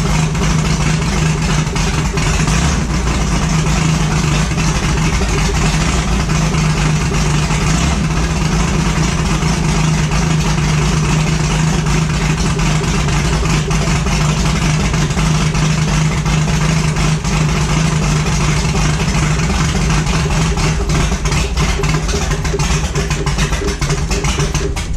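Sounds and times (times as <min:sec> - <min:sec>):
engine running steadily: 0:00.0 - 0:24.9.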